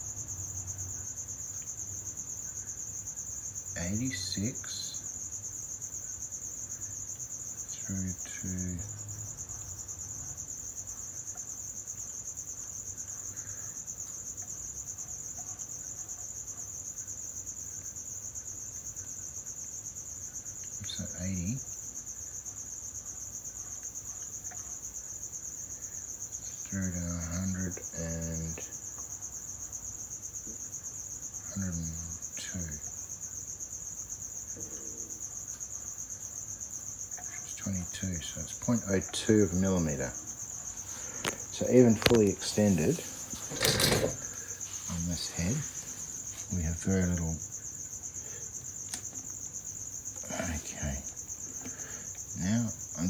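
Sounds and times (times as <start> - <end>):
insect trilling: 0.0 - 53.0.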